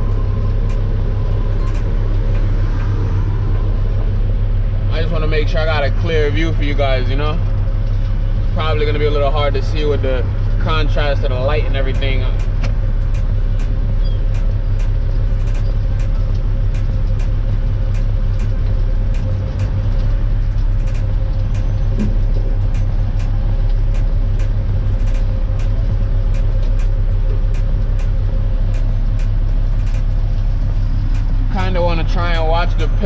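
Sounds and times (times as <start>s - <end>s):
diesel truck engine idling: 0.0s - 33.0s.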